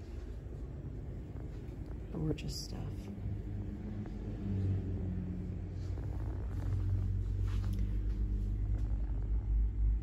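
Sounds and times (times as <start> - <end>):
road rumble: 0.0 - 10.0
vehicle engine humming: 0.0 - 10.0.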